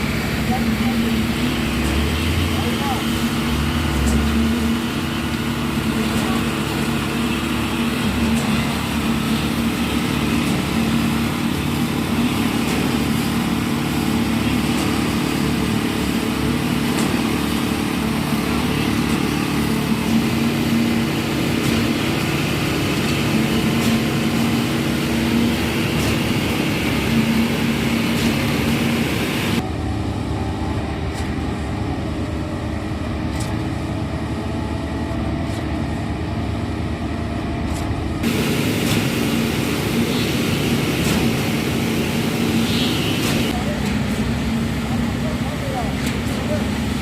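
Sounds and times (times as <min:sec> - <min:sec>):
diesel engine droning: 0:00.0 - 0:47.0.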